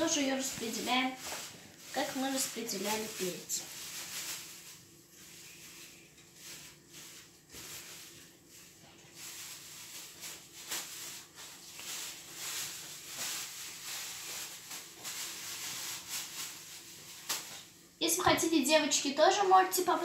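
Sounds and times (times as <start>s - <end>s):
hands rustling and handling food: 0.0s - 17.7s.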